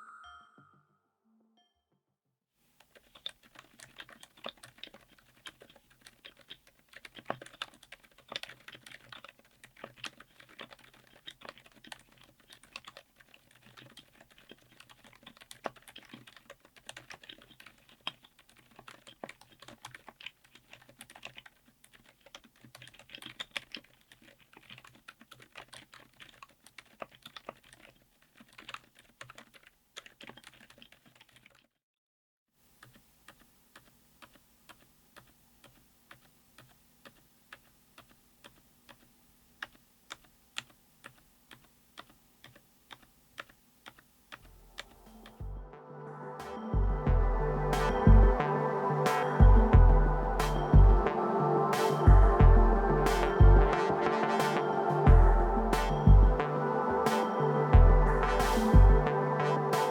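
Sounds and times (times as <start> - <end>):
keyboard typing: 2.8 - 31.6, 32.8 - 45.8, 46.4 - 59.9.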